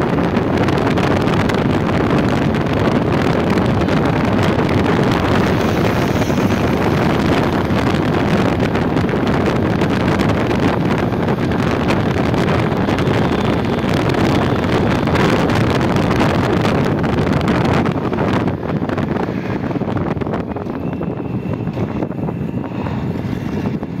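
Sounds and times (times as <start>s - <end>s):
motorcycle road and engine noise: 0.0s - 24.0s
wind buffeting microphone: 0.0s - 24.0s.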